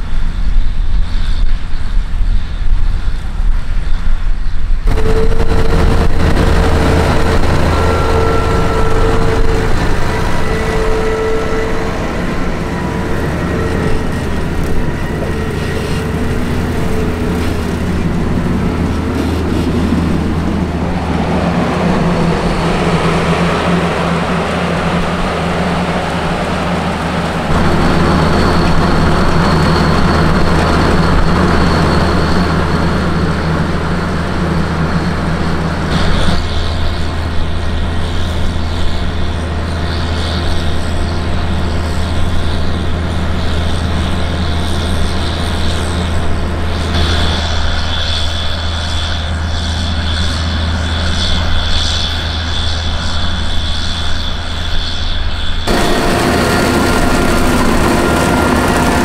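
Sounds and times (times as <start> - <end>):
thin high whine: 0.0 - 59.0
harvester engine low hum: 4.8 - 59.0.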